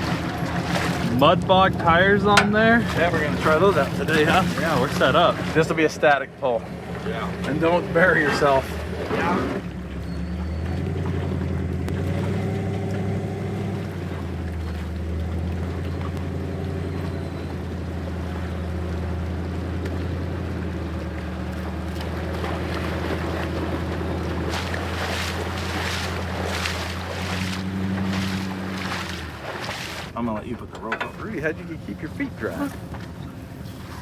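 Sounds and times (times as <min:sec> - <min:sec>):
truck engines running under load: 0:00.0 - 0:34.0
tyres splashing through water and mud: 0:00.0 - 0:34.0.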